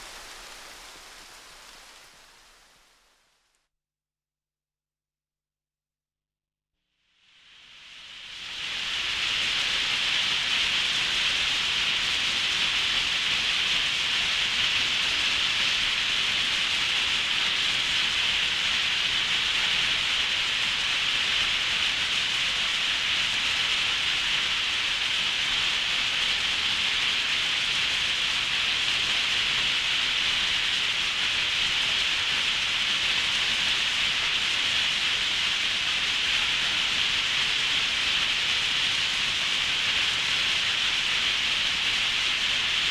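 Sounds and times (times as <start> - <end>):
heavy rain hissing: 0.0 - 2.9, 8.5 - 42.9.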